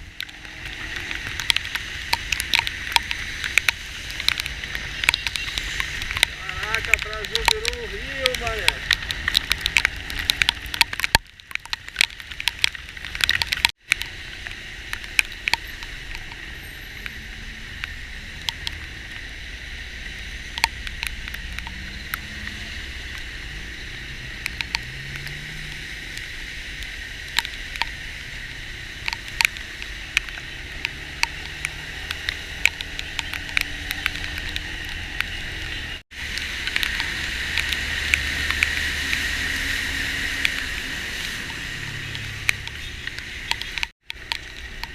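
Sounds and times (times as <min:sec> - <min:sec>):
engine and road rumble: 0:00.0 - 0:44.9
heavy rain on vehicle: 0:00.0 - 0:44.9.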